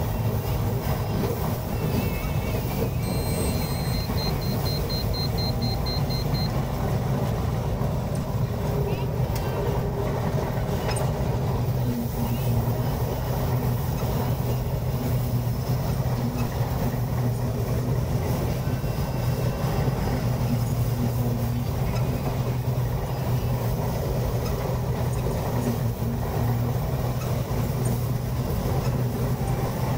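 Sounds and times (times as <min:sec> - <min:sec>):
combine harvester drone: 0:00.0 - 0:29.9.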